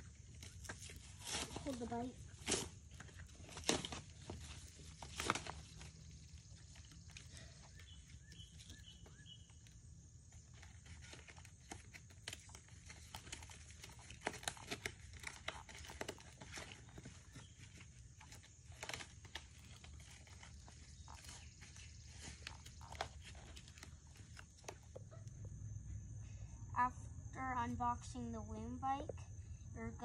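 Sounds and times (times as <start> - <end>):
packaging crinkling and tearing: 0.0 - 25.0.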